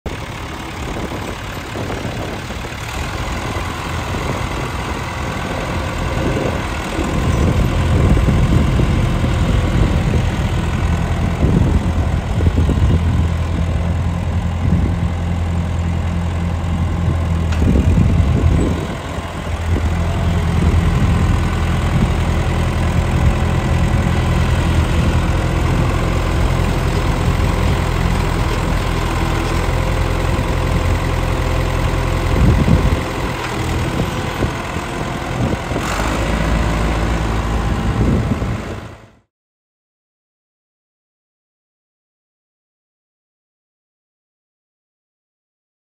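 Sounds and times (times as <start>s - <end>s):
tractor engine running: 0.1s - 39.3s.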